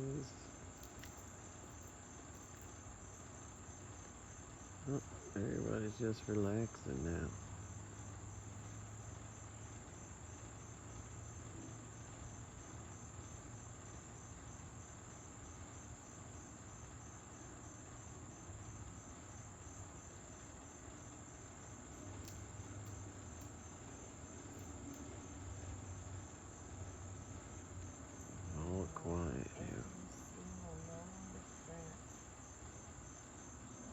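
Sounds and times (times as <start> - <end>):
crickets chirping: 0.0 - 33.9
faint low hum: 0.0 - 33.9.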